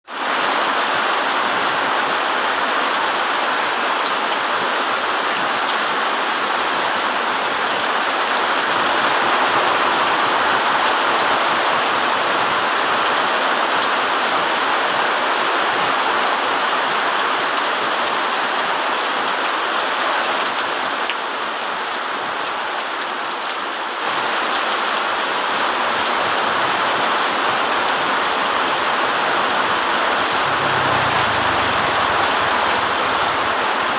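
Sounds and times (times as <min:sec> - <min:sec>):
heavy rain on a tent: 0:00.0 - 0:33.9.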